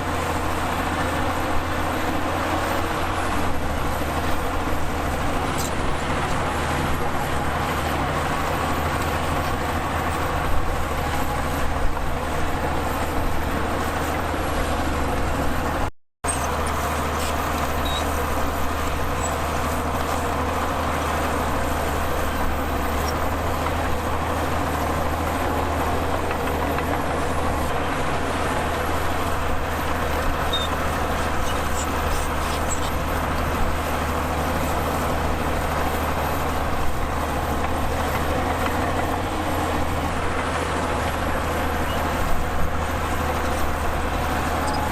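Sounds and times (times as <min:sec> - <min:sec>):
heavy diesel machinery droning: 0:00.0 - 0:44.9.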